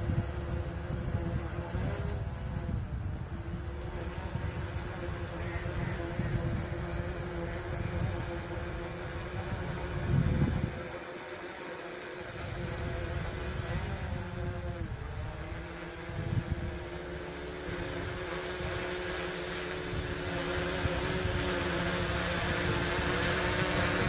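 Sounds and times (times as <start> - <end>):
wind rumble on microphone: 0.0 - 11.0, 12.2 - 24.0
drone propellers humming: 0.0 - 24.0.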